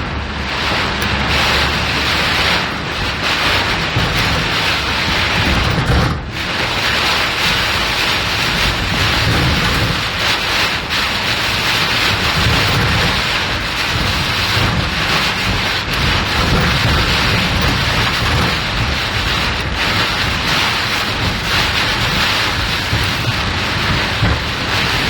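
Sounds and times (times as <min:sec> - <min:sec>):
floodwater rushing around a car: 0:00.0 - 0:25.0
heavy rain: 0:00.0 - 0:25.0
low rumble: 0:00.0 - 0:25.0.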